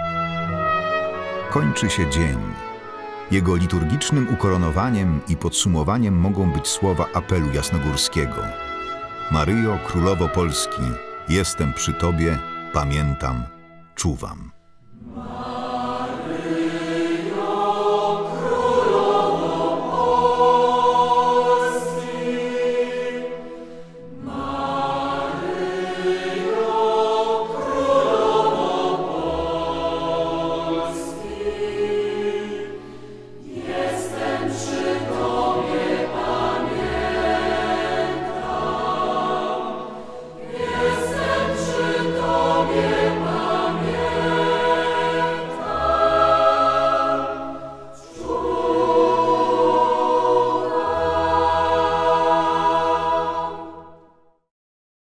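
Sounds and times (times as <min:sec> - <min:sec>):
choir singing a hymn: 0:00.0 - 0:13.5, 0:14.9 - 0:54.2.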